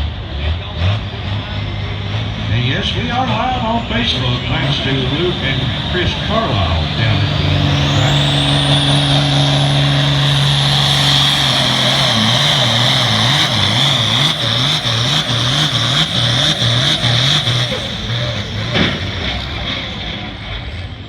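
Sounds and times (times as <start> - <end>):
high turbo whine: 0.0 - 21.0
tractor engine surging: 0.0 - 21.0.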